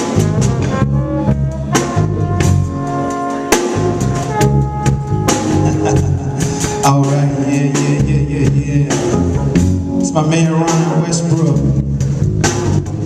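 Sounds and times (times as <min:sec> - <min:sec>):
drum kit steady beat: 0:00.0 - 0:13.0
held chords: 0:00.0 - 0:13.0
walking bass line: 0:00.0 - 0:13.0.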